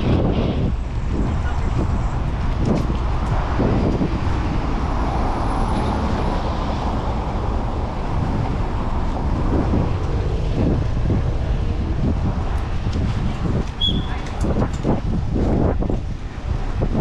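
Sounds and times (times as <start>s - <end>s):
road noise: 0.0s - 17.0s
vehicles passing: 0.0s - 17.0s
wind rushing over microphone: 0.0s - 17.0s.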